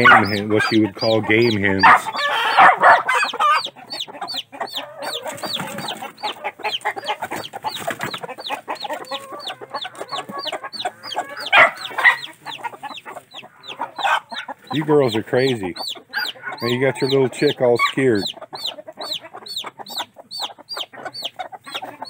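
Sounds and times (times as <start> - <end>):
chick peeping: 0.0 - 22.0
hens clucking and squawking: 0.0 - 22.0.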